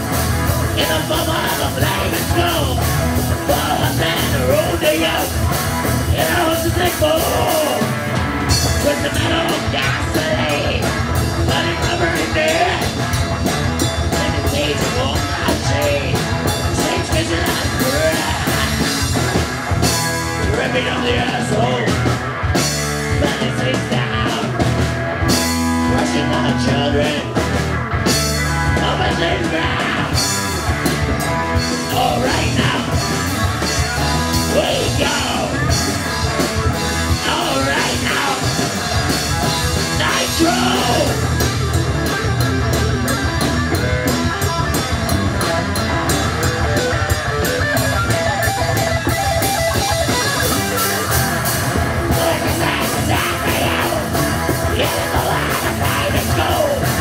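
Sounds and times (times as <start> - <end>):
punk metal band playing: 0.0 - 57.0.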